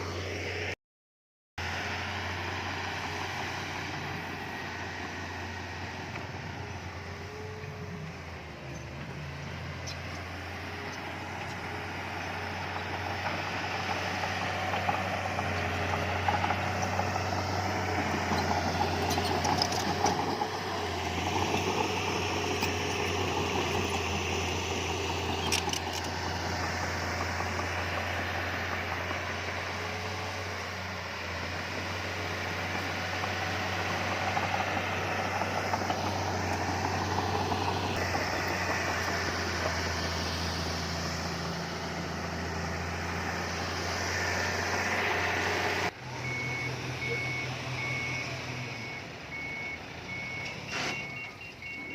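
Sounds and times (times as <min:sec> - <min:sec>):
heavy diesel engine running: 0:01.6 - 0:51.9.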